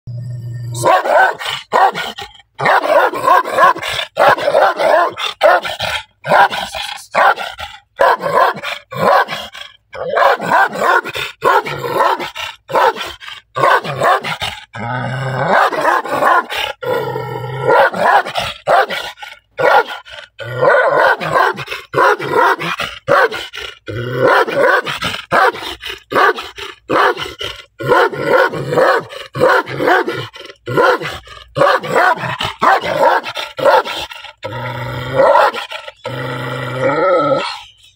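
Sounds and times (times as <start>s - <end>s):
dog barking aggressively: 0.8s - 14.7s, 15.3s - 23.6s, 24.2s - 35.9s.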